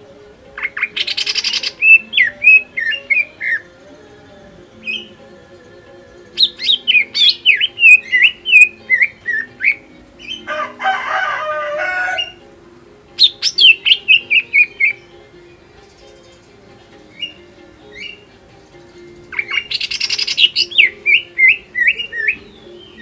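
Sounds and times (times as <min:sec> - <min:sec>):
bird whistling song: 0:00.6 - 0:10.6, 0:13.2 - 0:23.0.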